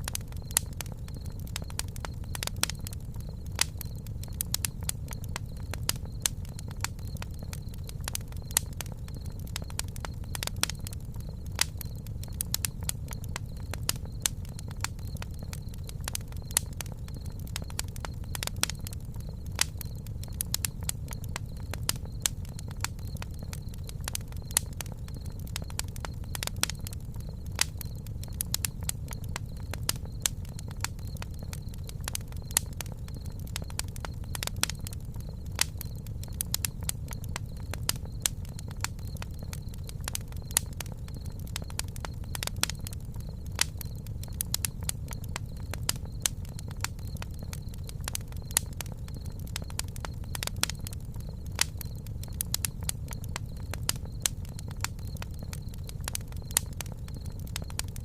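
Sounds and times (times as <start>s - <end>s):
campfire wood crackling: 0.0s - 58.0s
low fire rumble: 0.0s - 58.0s.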